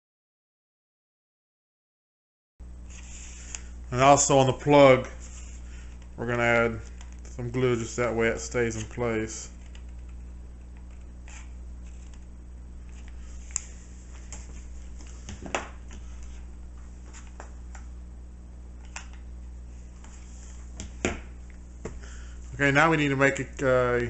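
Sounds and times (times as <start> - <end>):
low electrical hum: 2.6 - 24.0.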